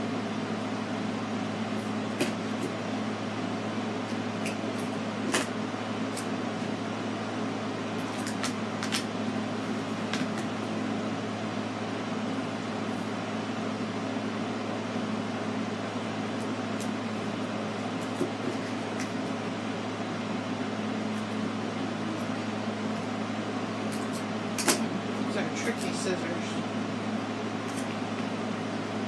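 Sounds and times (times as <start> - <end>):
background hum and hiss: 0.0 - 29.0.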